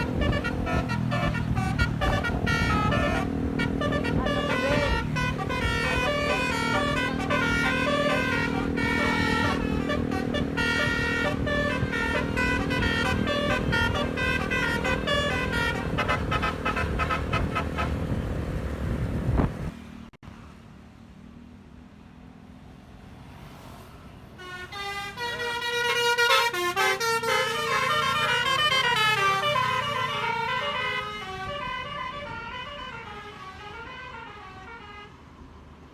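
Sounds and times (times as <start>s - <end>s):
melodic truck air horn: 0.0s - 18.2s, 24.4s - 35.2s.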